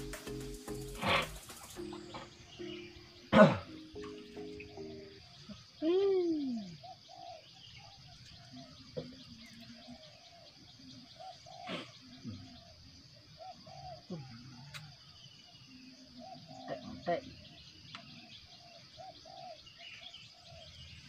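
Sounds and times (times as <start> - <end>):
bird calls: 0.0 - 21.0
high-pitched insect trill: 0.0 - 21.0.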